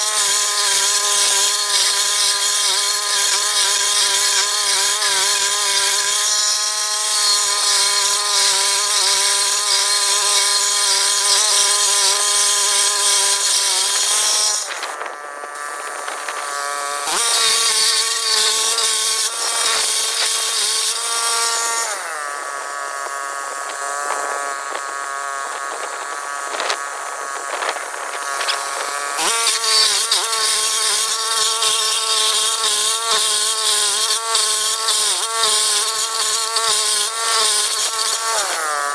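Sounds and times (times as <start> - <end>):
cutter wheel grinding wood: 0.0 - 38.9
small gasoline engine running hard: 0.0 - 38.9.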